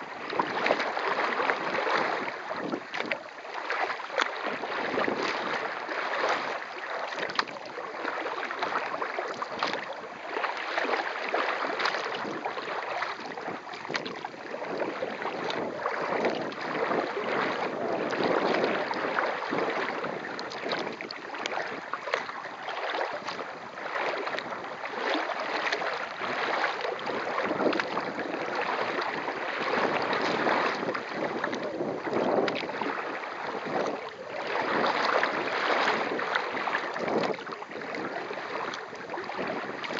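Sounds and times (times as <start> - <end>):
water splashing around kayak: 0.0 - 39.9
wind on microphone: 0.0 - 39.9.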